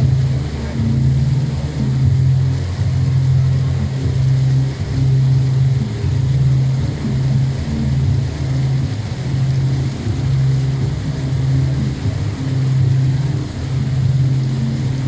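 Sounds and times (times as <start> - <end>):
boat engine drone: 0.0 - 15.0
faint water wash: 0.0 - 15.0.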